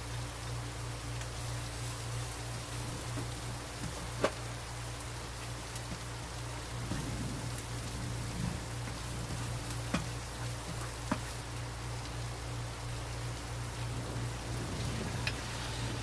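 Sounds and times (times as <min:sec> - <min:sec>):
garlic sizzling in hot oil: 0:00.0 - 0:16.0.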